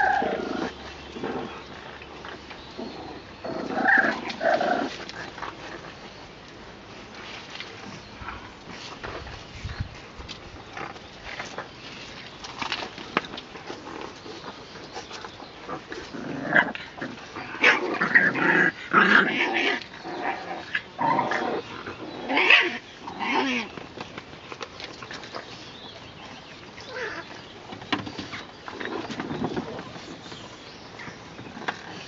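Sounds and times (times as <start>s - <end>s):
puppies play-growling: 0.0s - 32.0s.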